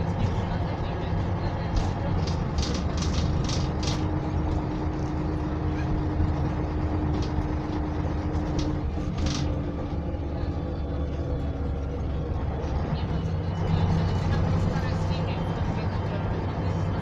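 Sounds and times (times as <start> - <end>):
bus diesel engine rumble: 0.0 - 17.0
engine hum: 0.0 - 17.0.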